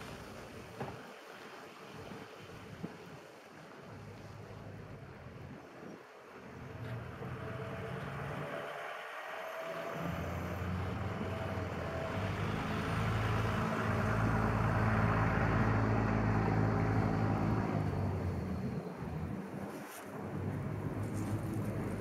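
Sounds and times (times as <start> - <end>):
vehicles driving past on snow: 0.0 - 22.0.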